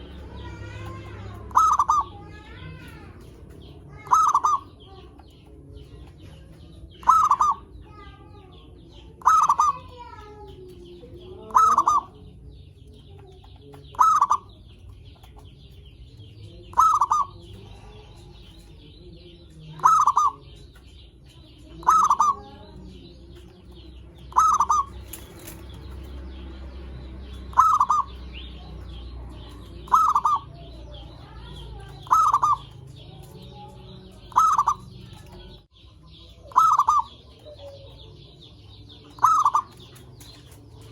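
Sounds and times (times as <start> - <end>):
dove cooing calls: 0.0 - 5.5, 6.3 - 8.0, 9.1 - 12.4, 13.8 - 15.2, 16.7 - 18.9, 19.6 - 21.0, 21.6 - 26.4, 27.0 - 35.6, 36.3 - 40.9
faint chirping of small birds: 0.0 - 40.9.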